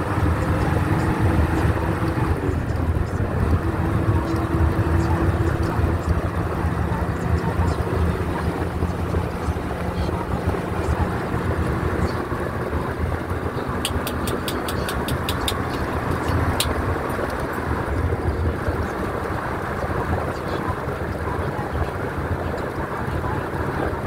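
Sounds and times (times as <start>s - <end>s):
road and engine rumble: 0.0s - 24.0s
wind: 0.0s - 24.0s.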